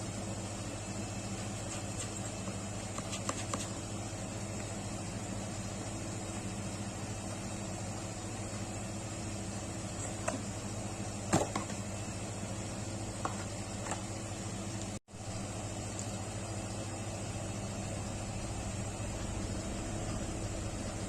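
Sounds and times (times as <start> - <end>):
machine-like hum: 0.0 - 21.0.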